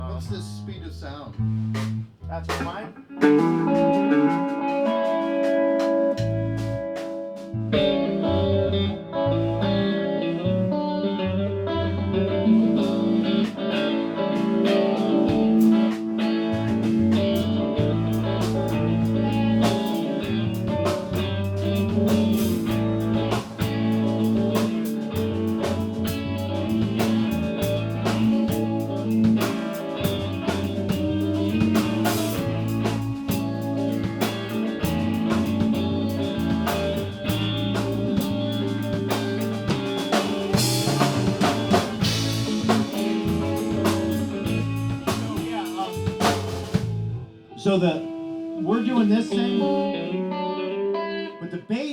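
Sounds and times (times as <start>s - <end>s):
band playing instrumental: 1.4s - 10.8s, 12.0s - 50.2s.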